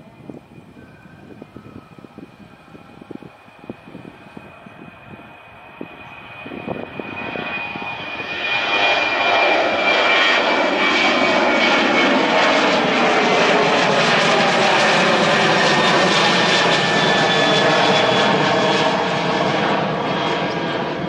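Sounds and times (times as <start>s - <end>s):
jet airliner engines: 0.0s - 21.0s.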